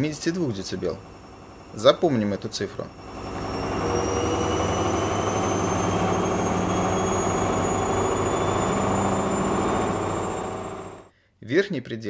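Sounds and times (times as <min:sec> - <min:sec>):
high rising whine: 0:00.0 - 0:11.1
washing machine spin drone: 0:00.0 - 0:11.1.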